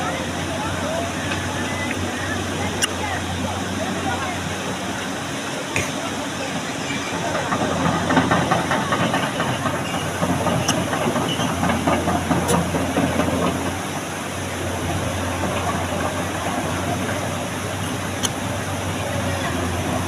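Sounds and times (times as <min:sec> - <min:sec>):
broad rushing noise: 0:00.0 - 0:20.0
excavator diesel engine running: 0:00.0 - 0:20.0.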